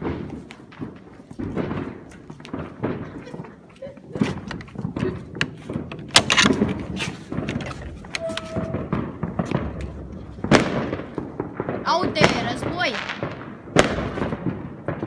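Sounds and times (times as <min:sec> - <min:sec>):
firecrackers popping: 0:00.0 - 0:15.0
loud firecracker bangs: 0:00.0 - 0:15.0.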